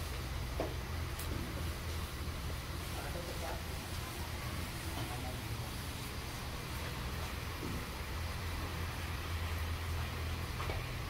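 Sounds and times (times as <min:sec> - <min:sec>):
hiss: 0:00.0 - 0:11.0.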